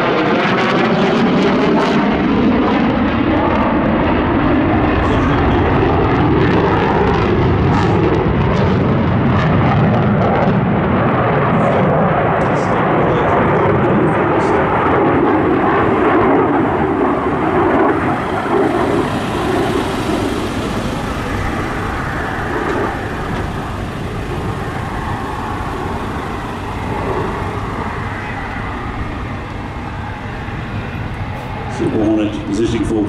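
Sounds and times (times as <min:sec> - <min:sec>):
jet engine roar: 0:00.0 - 0:33.0.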